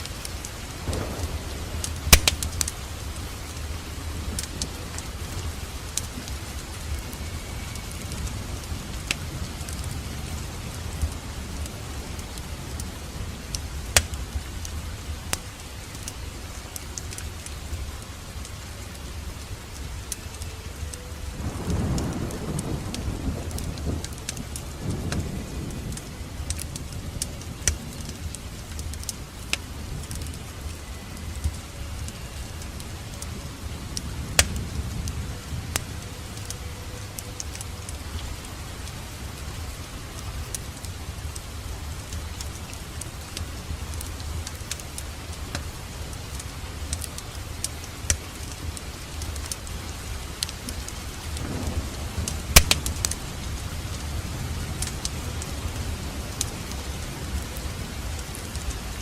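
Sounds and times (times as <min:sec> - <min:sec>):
fire popping and snapping: 0:00.0 - 0:59.0
wood fire crackling: 0:00.0 - 0:59.0.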